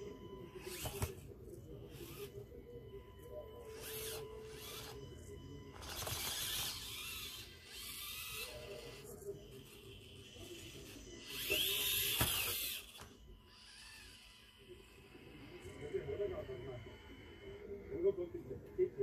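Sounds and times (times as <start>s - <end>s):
small electric motor whining: 0.0s - 18.1s.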